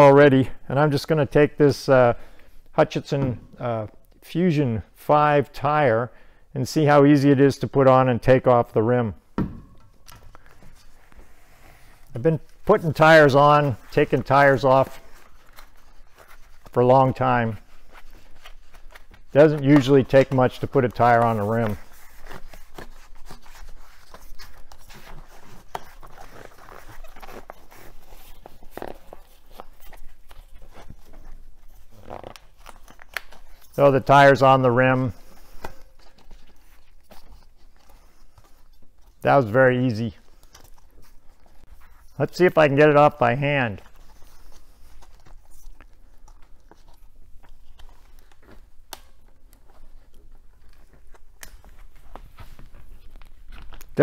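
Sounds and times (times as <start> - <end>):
rubbery scuffs and creaks of tire: 6.9 - 54.0.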